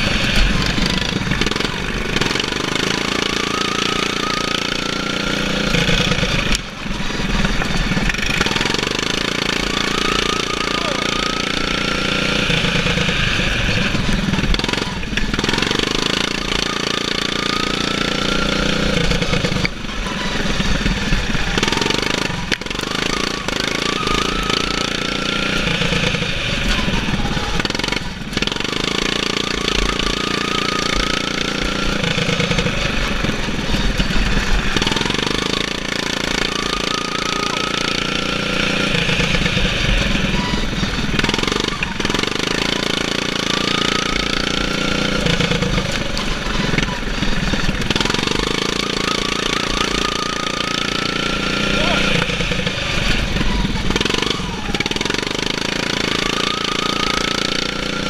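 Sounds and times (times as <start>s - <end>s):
lawn mower engine running hard: 0.0s - 58.0s.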